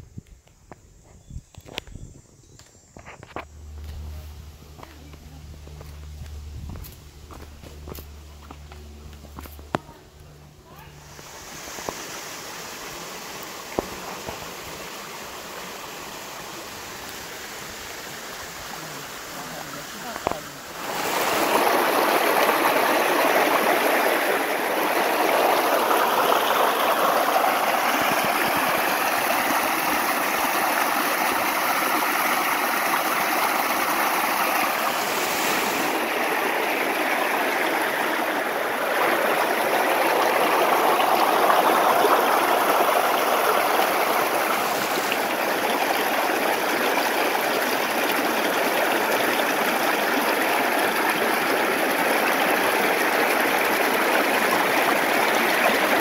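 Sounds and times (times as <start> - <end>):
stream water flowing: 3.1 - 56.0.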